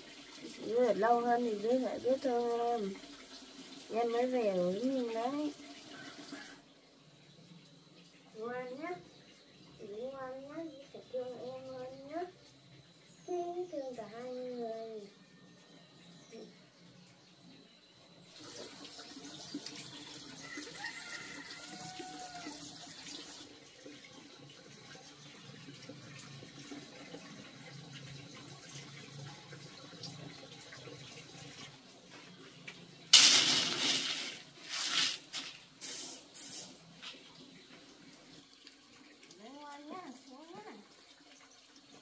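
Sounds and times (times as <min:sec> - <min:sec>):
water running and splashing: 0:00.0 - 0:15.2, 0:18.1 - 0:42.0.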